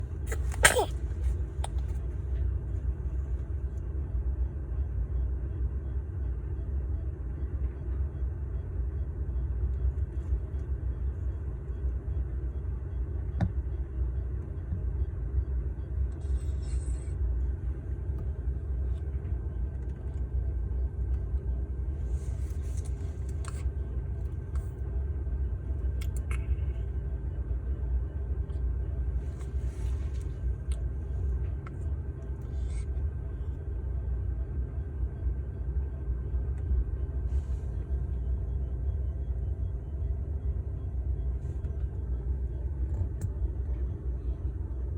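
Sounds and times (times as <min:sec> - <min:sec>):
incubator running hum: 0:00.0 - 0:44.9.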